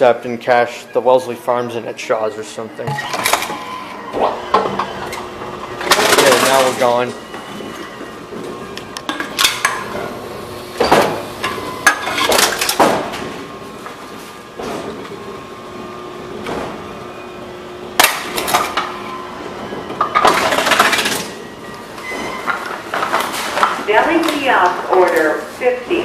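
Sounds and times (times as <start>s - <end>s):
faint machine hum: 0.0s - 26.0s.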